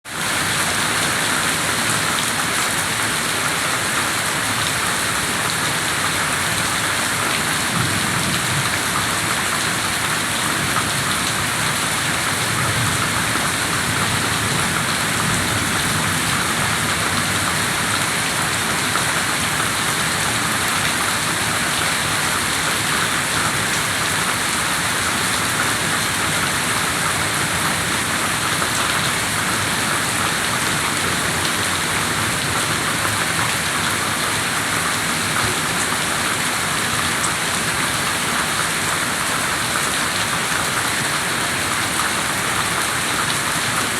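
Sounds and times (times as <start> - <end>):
rain pattering: 0.2 - 43.9.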